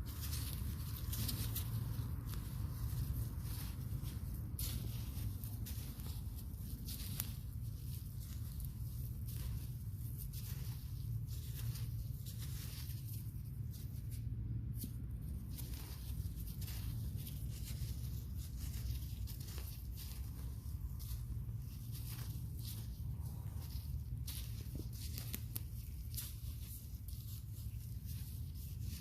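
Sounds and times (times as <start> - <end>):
rustling and scraping of soil: 0.0 - 29.0
steady low rumble: 0.0 - 29.0.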